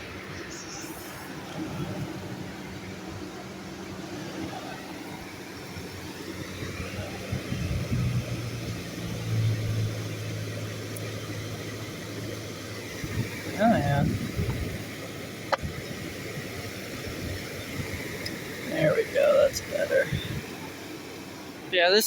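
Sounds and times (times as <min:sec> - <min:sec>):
air conditioner compressor hum: 0:00.0 - 0:22.0
condenser fan rushing air: 0:00.0 - 0:22.0.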